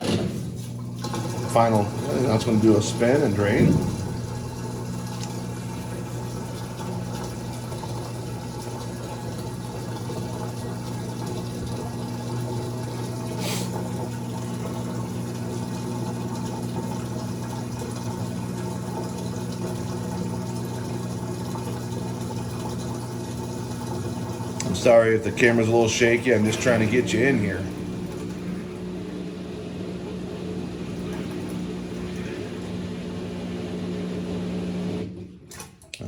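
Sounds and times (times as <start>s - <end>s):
drain pump humming: 0.0s - 36.0s.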